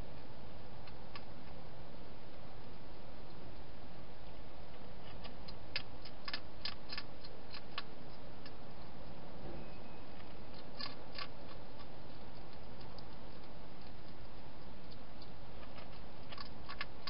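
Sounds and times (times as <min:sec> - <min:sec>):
hedgehog crunching dry food: 0:02.3 - 0:09.2, 0:10.2 - 0:17.0.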